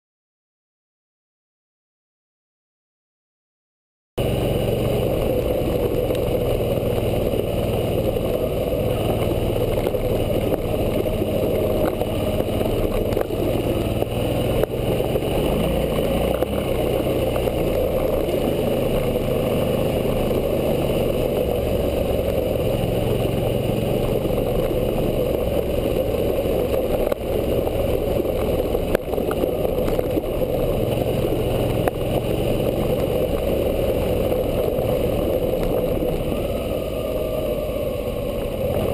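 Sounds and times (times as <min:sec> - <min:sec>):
motorcycle engine running: 0:04.2 - 0:38.9.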